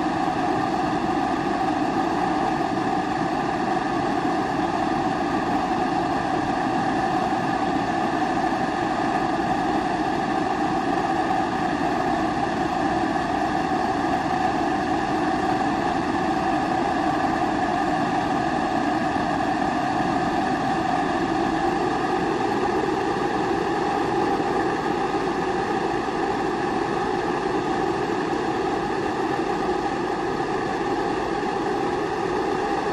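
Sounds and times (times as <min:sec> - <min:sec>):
kerosene stove flame rushing: 0:00.0 - 0:32.9.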